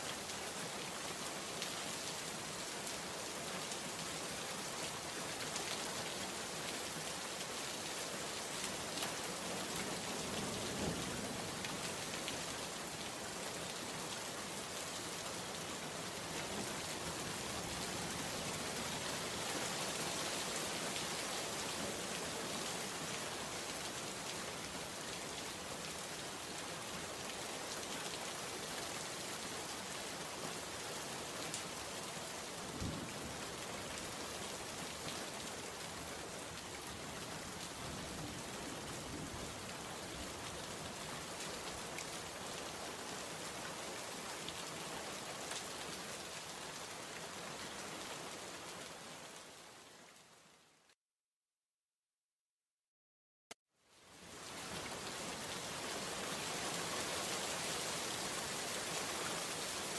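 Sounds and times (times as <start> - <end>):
heavy rain: 0.0 - 50.9, 54.0 - 59.9.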